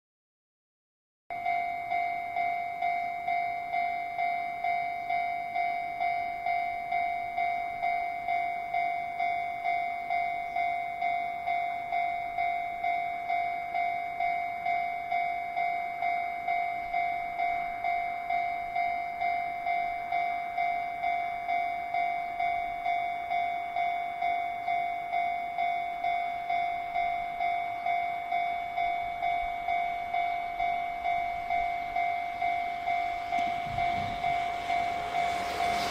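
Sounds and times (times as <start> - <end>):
level-crossing warning bell: 1.3 - 35.9.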